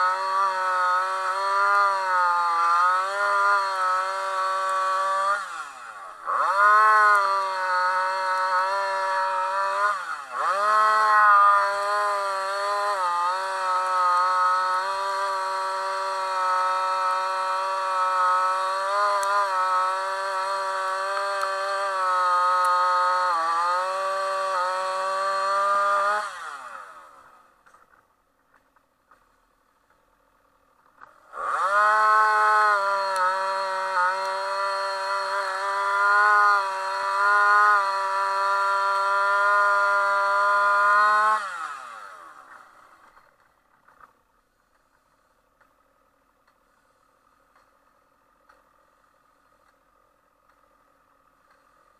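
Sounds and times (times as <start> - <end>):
chainsaw cutting shingles: 0.0 - 51.9.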